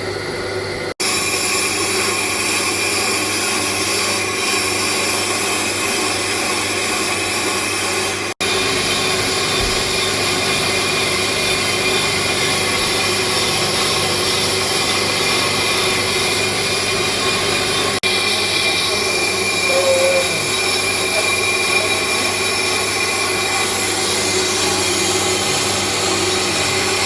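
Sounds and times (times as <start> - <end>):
brake lathe cutting rotor: 0.0 - 27.0.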